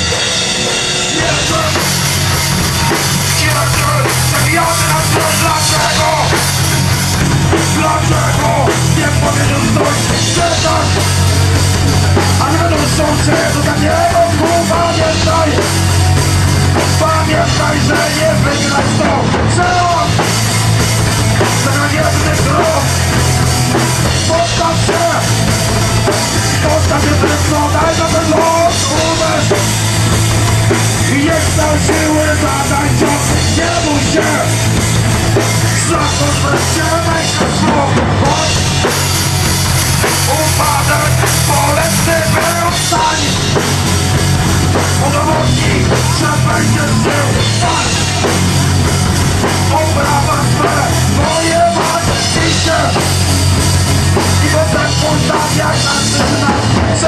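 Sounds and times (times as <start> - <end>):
drum kit: 0.0 - 57.0
electric guitar: 0.0 - 57.0
person singing into microphone: 0.9 - 2.2, 2.8 - 6.6, 7.5 - 16.1, 16.7 - 20.4, 21.4 - 29.7, 31.0 - 39.2, 40.0 - 43.6, 44.9 - 48.4, 49.4 - 53.4, 54.0 - 57.0.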